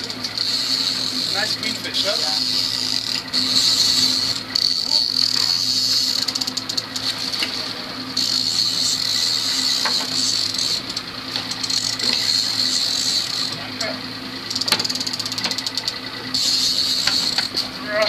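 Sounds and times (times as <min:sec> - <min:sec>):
fishing reel drag buzzing: 0:00.0 - 0:18.0
outboard motors humming: 0:00.0 - 0:18.0.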